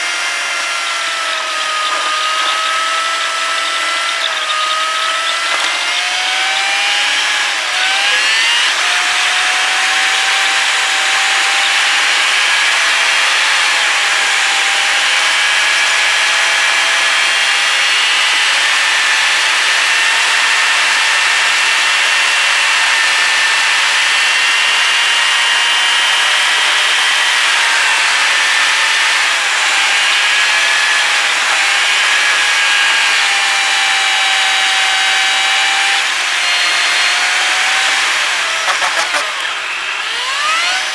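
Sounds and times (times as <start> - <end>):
car engine whine: 0.0 - 40.9.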